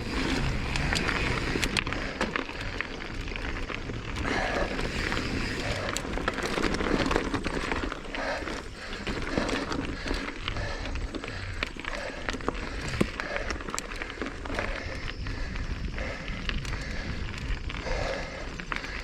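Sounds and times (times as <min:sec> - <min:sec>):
bike clicking and rattling: 0:00.0 - 0:19.0
bike tyres on dirt and gravel: 0:00.0 - 0:19.0.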